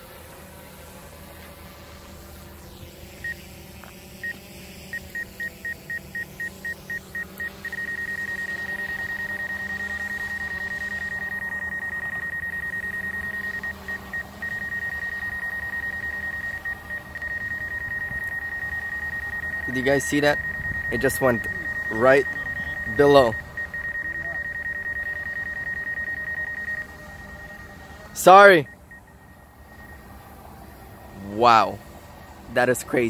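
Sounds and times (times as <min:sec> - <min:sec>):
steady low hum: 0:00.0 - 0:33.0
warning beeps quickening into tone: 0:03.0 - 0:33.0.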